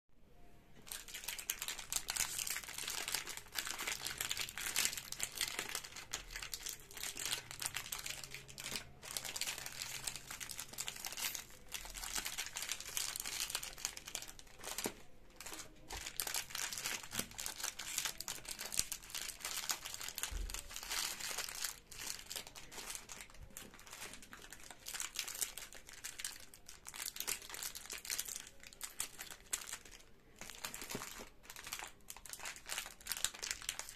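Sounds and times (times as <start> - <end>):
plastic wrappers crinkling: 0.8 - 33.9.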